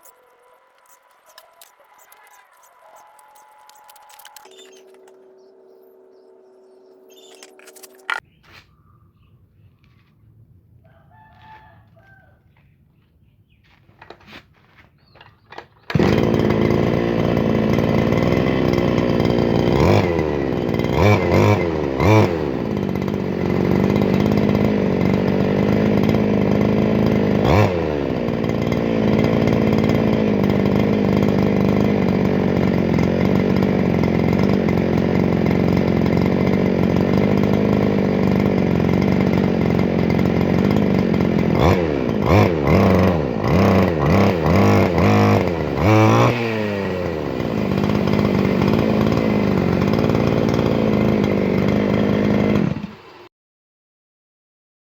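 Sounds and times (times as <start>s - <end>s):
brush cutter engine revving: 0.0s - 8.3s, 13.7s - 53.3s.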